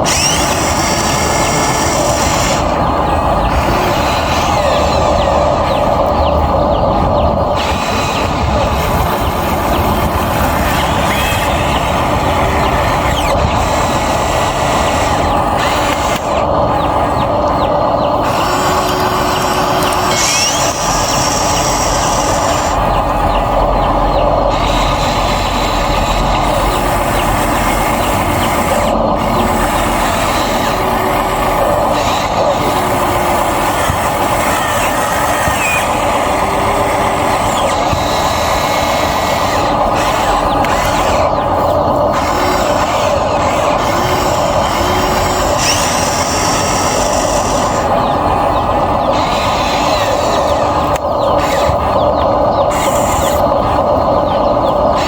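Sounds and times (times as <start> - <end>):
steady machine noise: 0.0 - 55.0.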